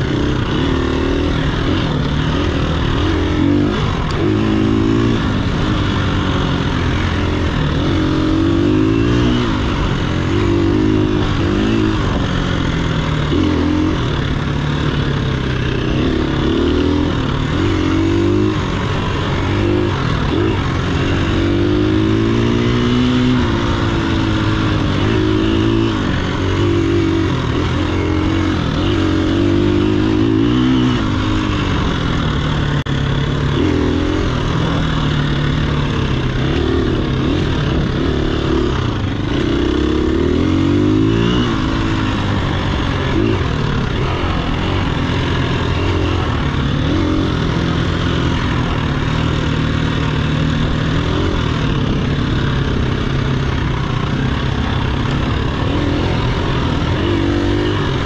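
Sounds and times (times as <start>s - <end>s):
dirt bike engine revving: 0.0s - 58.0s
steady rushing noise: 0.0s - 58.0s.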